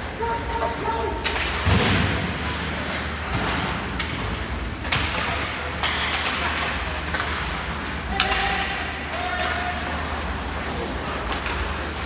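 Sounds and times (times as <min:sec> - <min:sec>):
hockey sticks and puck clacking: 0:00.0 - 0:12.0.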